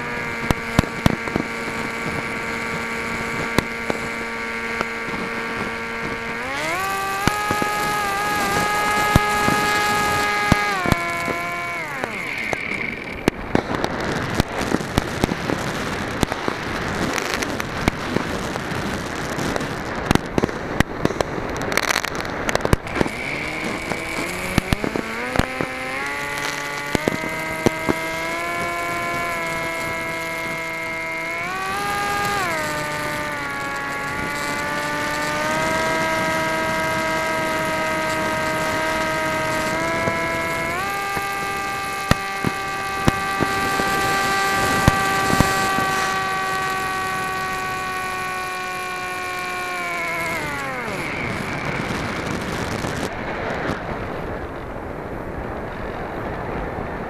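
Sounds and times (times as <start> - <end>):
electric motor and propeller whine: 0.0 - 57.0
fireworks bangs and crackling: 0.0 - 57.0.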